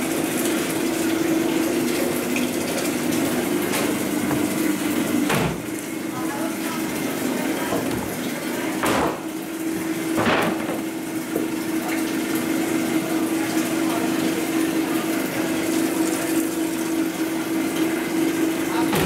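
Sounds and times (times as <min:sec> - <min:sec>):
bakery machinery hum: 0:00.0 - 0:19.0.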